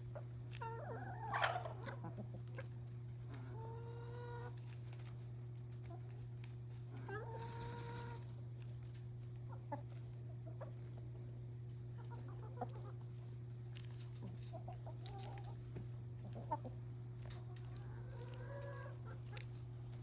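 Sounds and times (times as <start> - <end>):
hens clucking: 0.0 - 4.7, 6.8 - 8.4, 9.2 - 20.0
steady low hum: 0.0 - 20.0.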